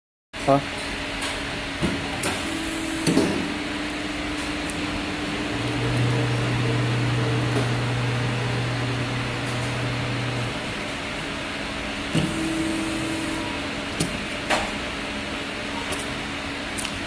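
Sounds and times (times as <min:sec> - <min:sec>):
machine hum: 0:00.8 - 0:17.0
deep loud machine buzz: 0:01.8 - 0:15.8.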